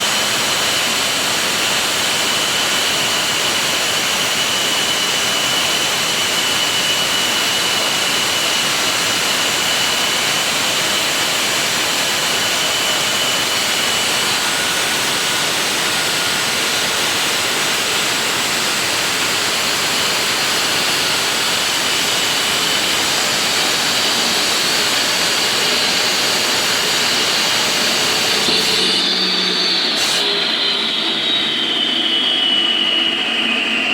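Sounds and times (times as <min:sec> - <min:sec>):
concrete saw cutting: 0:00.0 - 0:33.8.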